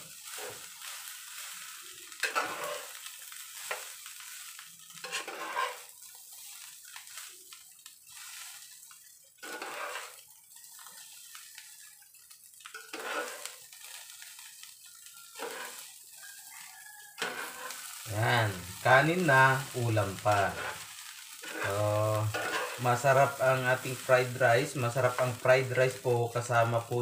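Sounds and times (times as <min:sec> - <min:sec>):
metal spatula scraping a pan: 0:00.0 - 0:11.8, 0:12.7 - 0:16.2, 0:17.2 - 0:25.4
rice sizzling: 0:00.0 - 0:27.0.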